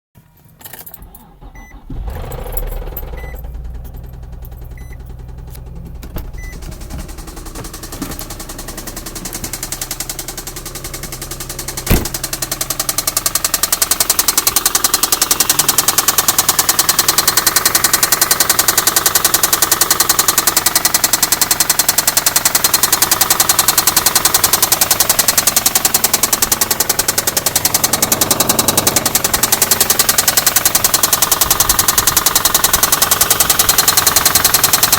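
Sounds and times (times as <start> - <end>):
engine running with fast knocking: 1.0 - 34.9.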